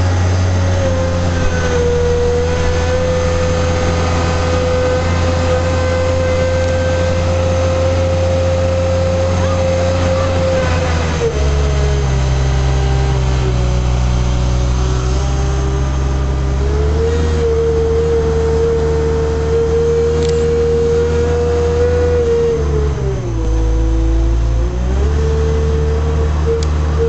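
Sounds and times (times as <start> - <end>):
truck diesel engine: 0.0 - 27.0.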